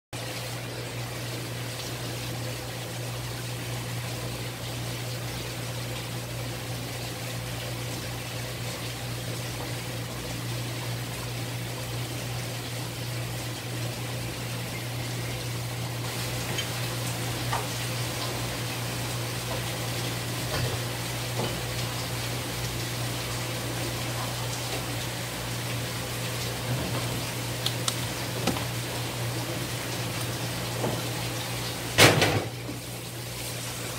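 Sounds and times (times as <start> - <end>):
low pump hum: 0.2 - 33.9.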